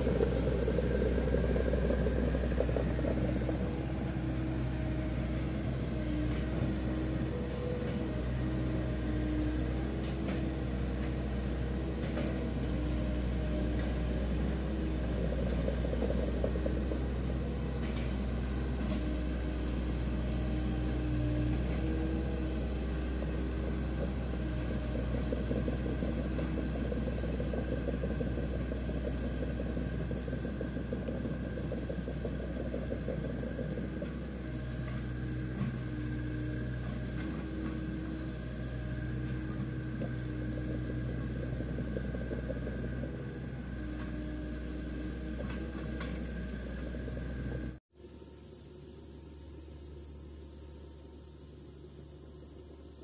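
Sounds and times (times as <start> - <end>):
excavator diesel engine running: 0.0 - 47.8.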